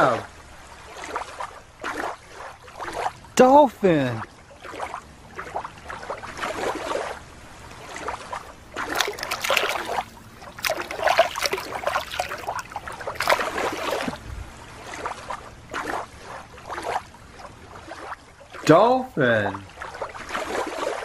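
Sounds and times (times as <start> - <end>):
water splashing and dripping: 0.8 - 18.7, 19.6 - 21.0.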